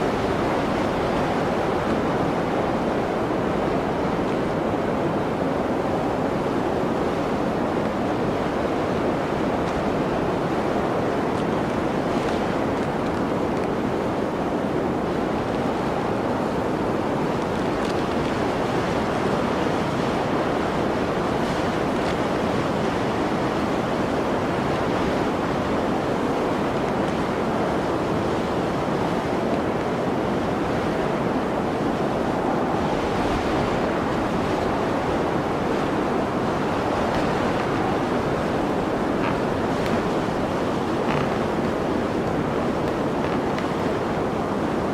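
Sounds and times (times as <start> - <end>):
blizzard wind rushing: 0.0 - 44.9.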